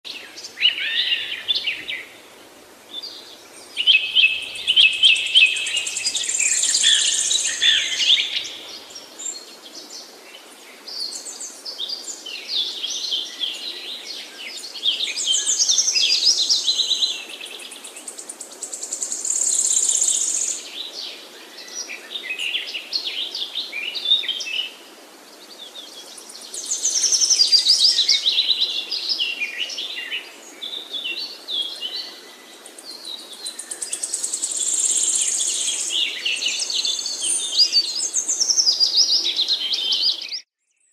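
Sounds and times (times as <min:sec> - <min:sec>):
songbirds chirping and trilling: 0:00.1 - 0:40.9.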